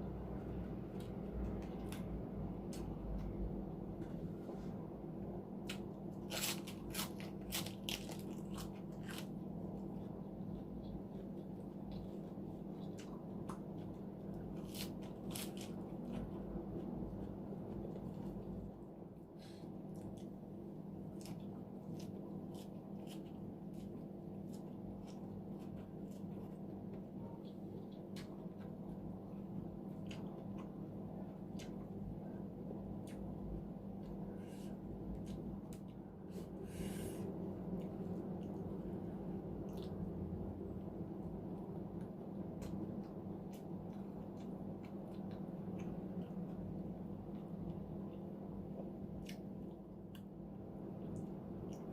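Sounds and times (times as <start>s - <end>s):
low hum: 0.0s - 51.9s
person chewing food: 5.6s - 18.8s, 19.5s - 51.9s.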